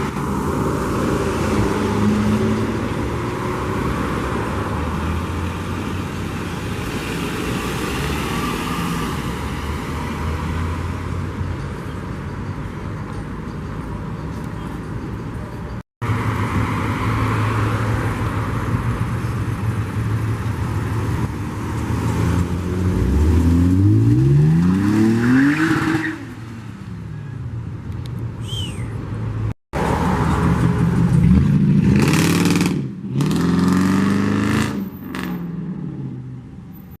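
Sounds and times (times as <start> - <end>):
car engines revving: 0.0 - 15.4, 16.0 - 36.8.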